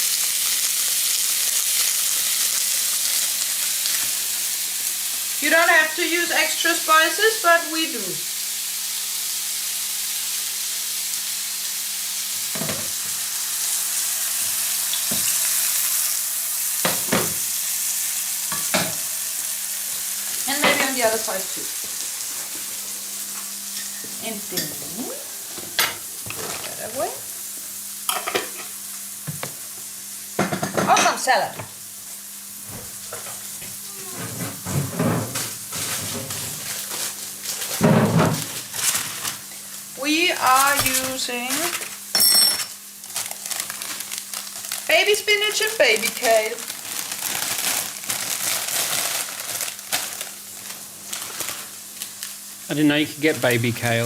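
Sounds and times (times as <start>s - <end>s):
patties sizzling in a pan: 0.0s - 54.0s.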